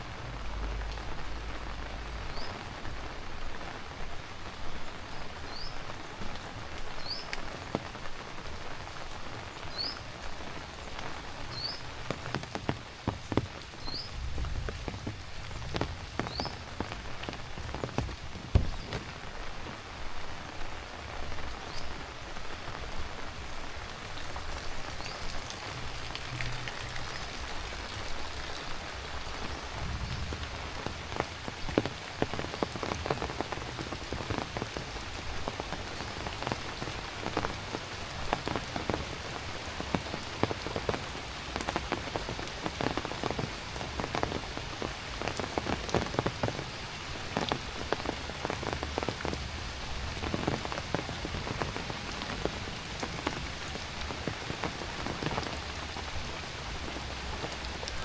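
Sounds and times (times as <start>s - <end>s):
close raindrops pattering: 0.0s - 58.0s
heavy rain: 0.0s - 58.0s.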